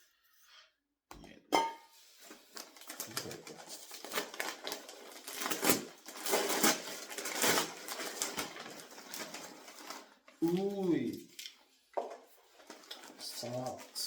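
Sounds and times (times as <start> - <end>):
wrapping paper rustling and tearing: 2.1 - 11.6, 12.2 - 14.0.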